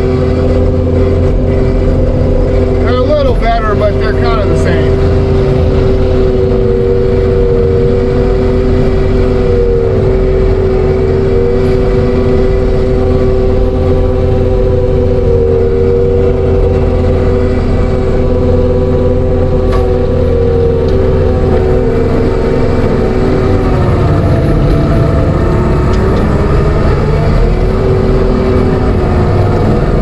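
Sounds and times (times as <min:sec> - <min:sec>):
diesel engine drone: 0:00.0 - 0:30.0
mulcher high whine: 0:00.0 - 0:30.0.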